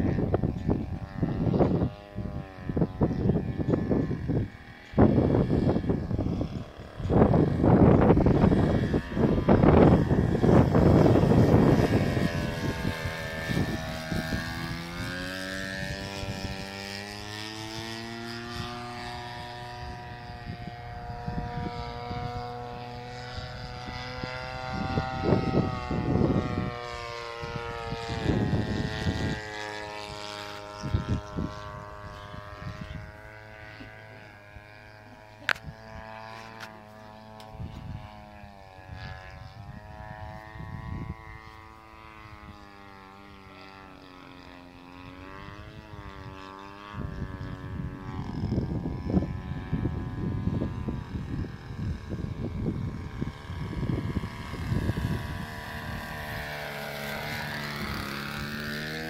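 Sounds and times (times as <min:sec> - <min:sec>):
model plane motor droning: 0:00.0 - 0:59.0
wind buffeting microphone: 0:00.0 - 0:59.0.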